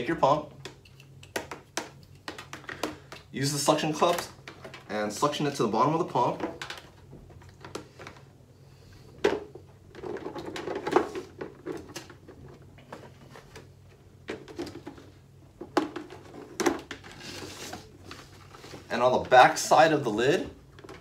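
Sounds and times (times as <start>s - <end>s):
plastic buckets knocking and rattling: 1.4s - 8.3s, 9.1s - 21.0s.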